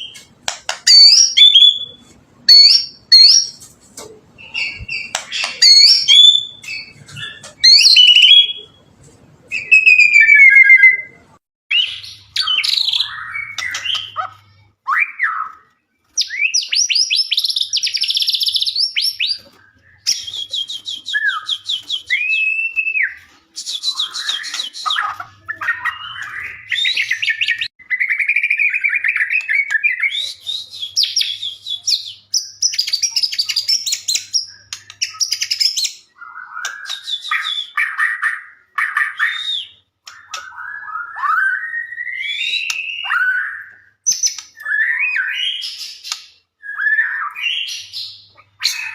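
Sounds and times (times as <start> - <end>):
songbird trilling and whistling: 0.0 - 3.7, 4.4 - 8.8, 9.5 - 48.9.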